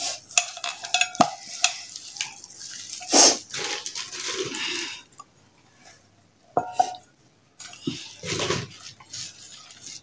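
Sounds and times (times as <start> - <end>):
hand squishing wet food: 0.0 - 6.0, 7.6 - 10.0.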